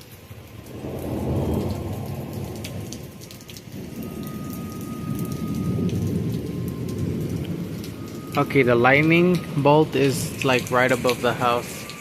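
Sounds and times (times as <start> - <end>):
raindrops clicking on surfaces: 0.0 - 12.0
steady rain: 0.0 - 12.0
thunder rumbling: 0.3 - 12.0.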